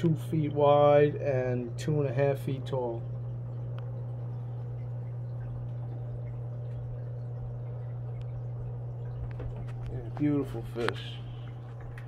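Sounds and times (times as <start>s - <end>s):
aquarium filter humming: 0.0s - 12.0s
trickling water: 0.0s - 12.0s
water dripping: 0.0s - 12.0s.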